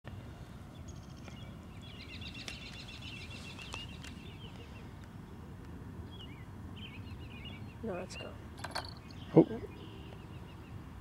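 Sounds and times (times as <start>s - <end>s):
songbird twittering: 0.7s - 5.0s, 6.0s - 10.8s.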